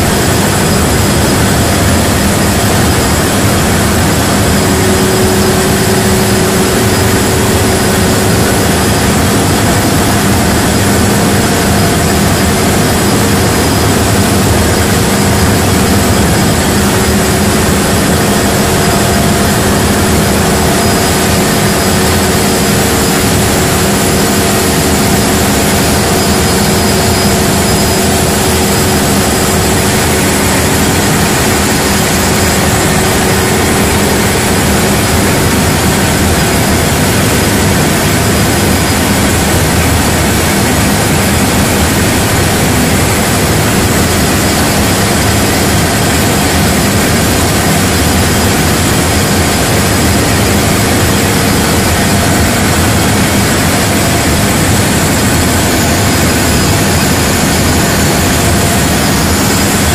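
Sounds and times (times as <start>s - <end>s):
diesel generator engine drone: 0.0s - 59.9s.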